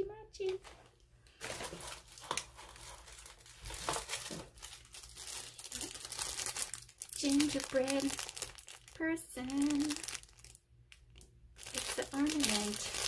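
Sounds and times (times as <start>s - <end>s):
packaging crinkling: 0.6s - 13.0s.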